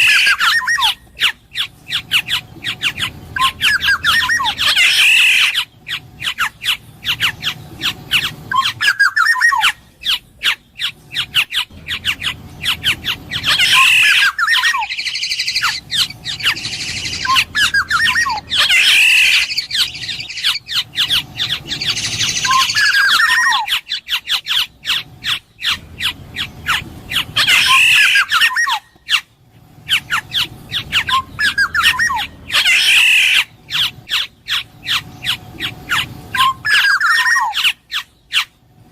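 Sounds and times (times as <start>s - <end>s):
oriole downward-sliding calls: 0.0s - 38.5s.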